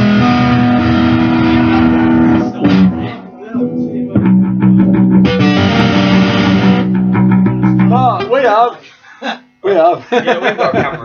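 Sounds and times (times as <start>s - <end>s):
electric guitar chords: 0.0s - 10.0s.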